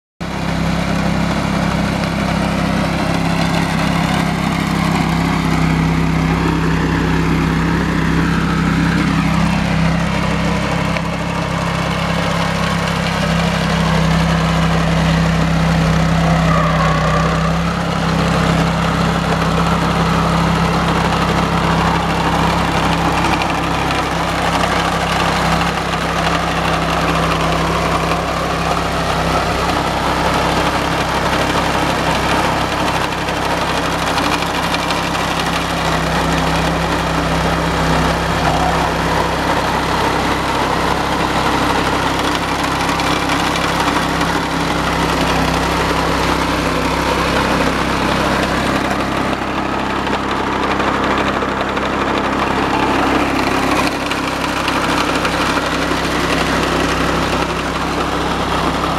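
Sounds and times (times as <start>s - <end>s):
petrol engine running under load: 0.2s - 58.9s
digging chain cutting soil: 2.1s - 58.9s.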